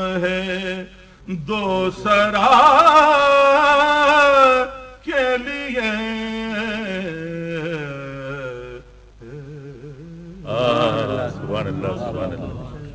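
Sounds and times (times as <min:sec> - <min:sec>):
man chanting unaccompanied: 0:00.0 - 0:12.9.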